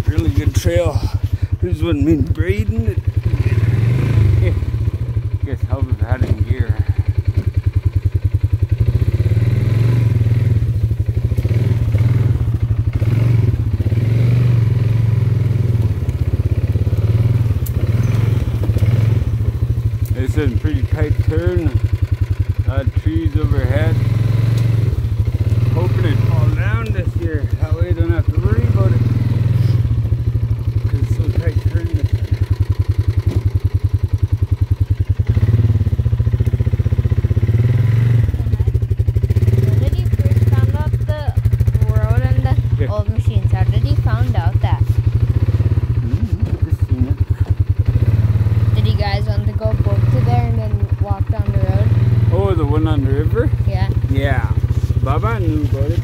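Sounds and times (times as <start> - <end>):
vehicle engine low throb: 0.0 - 56.0.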